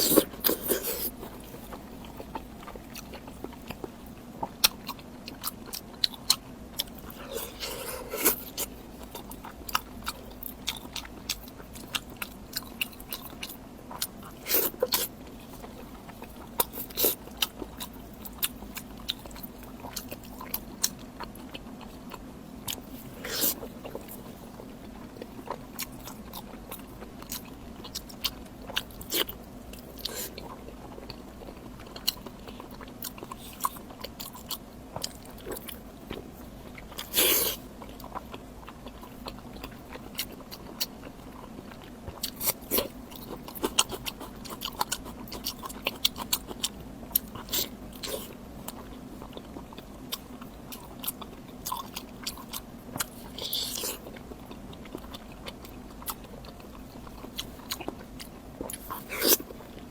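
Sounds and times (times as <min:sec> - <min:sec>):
chewing and biting: 0:00.0 - 0:59.9.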